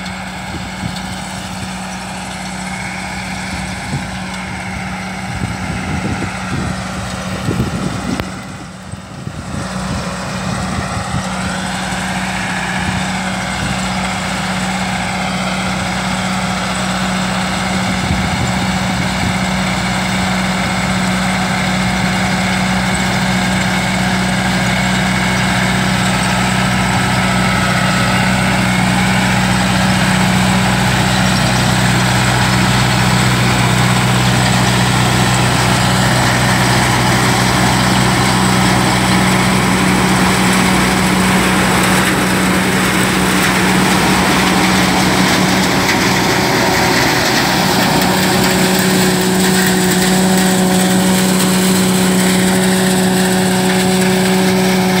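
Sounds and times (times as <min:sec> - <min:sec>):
harvester machinery whirring: 0:00.0 - 0:55.0
tractor diesel engine running: 0:00.0 - 0:55.0.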